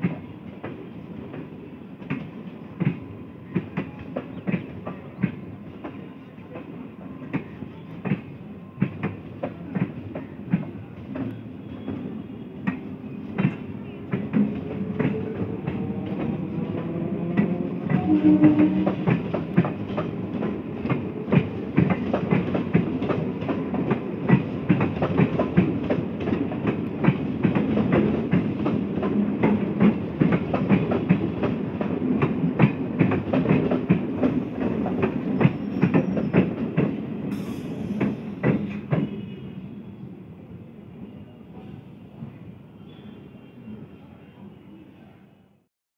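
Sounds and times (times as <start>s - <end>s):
train rumble: 0.0s - 39.8s.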